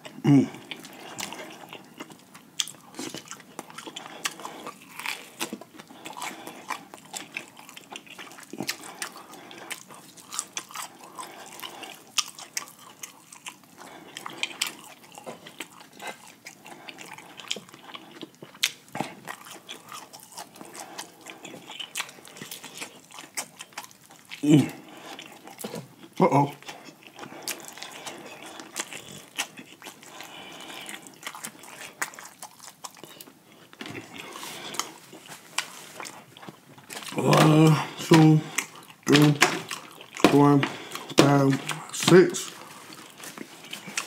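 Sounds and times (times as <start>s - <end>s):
chewing crispy fried chicken: 0.0s - 44.0s.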